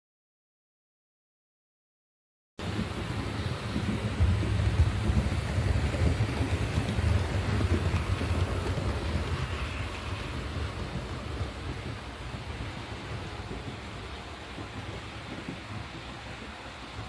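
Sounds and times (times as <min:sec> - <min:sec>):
model train rumbling on track: 0:02.6 - 0:17.0.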